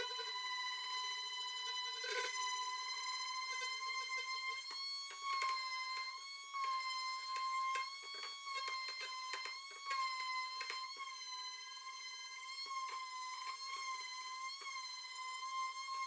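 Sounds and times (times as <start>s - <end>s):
palm sander motor whine: 0.0s - 16.0s.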